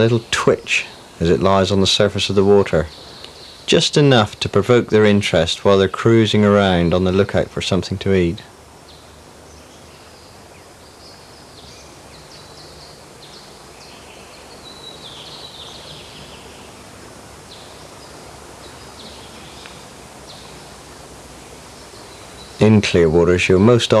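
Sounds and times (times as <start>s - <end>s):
small birds chirping: 0.0s - 24.0s
steady background hiss: 0.0s - 24.0s.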